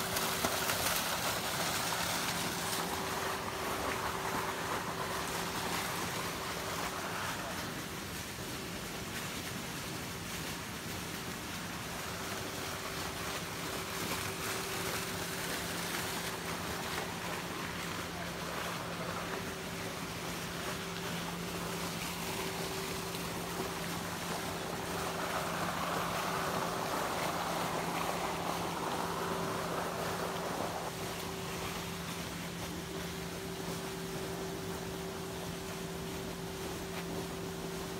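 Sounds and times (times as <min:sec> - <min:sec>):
low machine hum: 0:00.0 - 0:37.9
outdoor hiss: 0:00.0 - 0:37.9.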